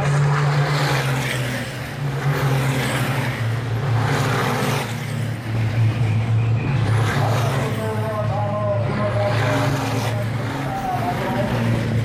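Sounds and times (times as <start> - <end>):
diesel truck engines droning: 0.0 - 12.0.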